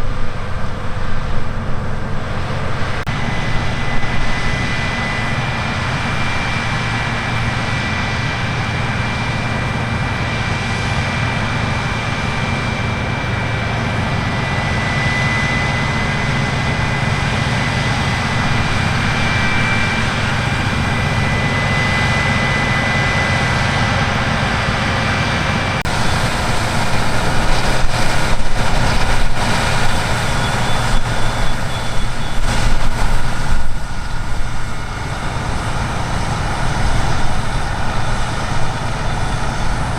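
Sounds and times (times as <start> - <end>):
diesel engine running: 0.0 - 39.9
rushing noise: 0.0 - 39.9
thin high whine: 0.0 - 39.9.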